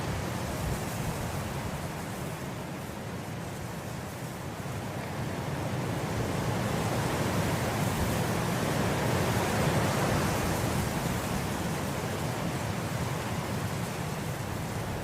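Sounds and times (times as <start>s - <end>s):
wind blowing through grass: 0.0s - 15.0s.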